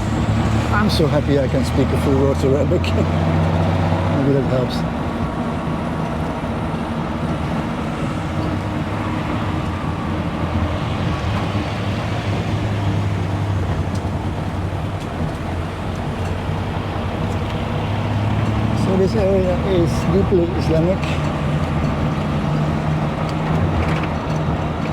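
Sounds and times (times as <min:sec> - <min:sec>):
road and wind noise: 0:00.0 - 0:24.9
tuk-tuk engine running: 0:00.0 - 0:24.9.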